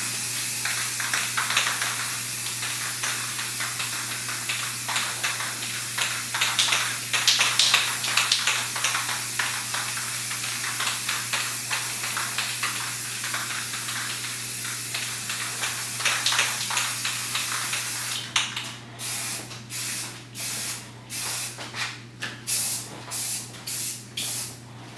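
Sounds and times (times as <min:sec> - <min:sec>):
spray-paint can hissing: 0:00.0 - 0:18.3, 0:19.0 - 0:21.6, 0:22.5 - 0:24.5.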